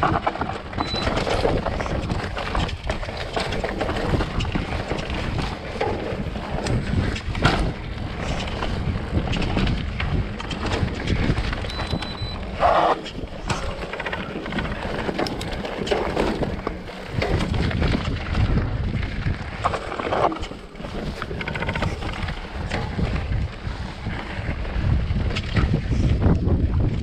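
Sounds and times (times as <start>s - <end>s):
tyres rolling over stones: 0.0s - 26.9s
bike rattling and knocking: 0.0s - 27.0s
wind buffeting microphone: 0.0s - 27.0s.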